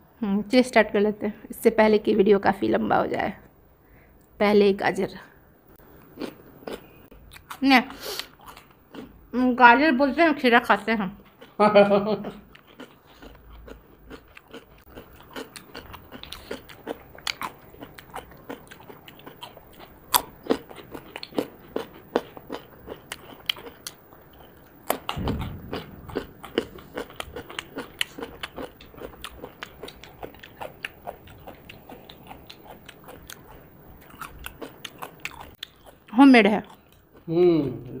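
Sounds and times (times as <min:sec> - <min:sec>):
crunching and chewing vegetables: 0:05.8 - 0:09.2, 0:10.7 - 0:38.0.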